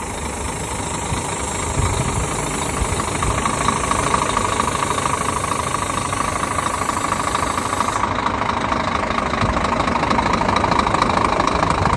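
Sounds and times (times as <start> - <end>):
truck diesel engine running: 0.0 - 11.9.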